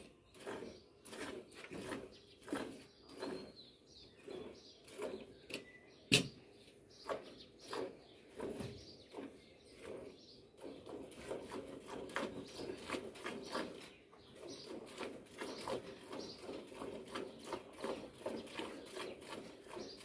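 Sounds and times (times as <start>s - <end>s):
milk squirting into bucket: 0.0s - 5.4s, 7.1s - 20.0s.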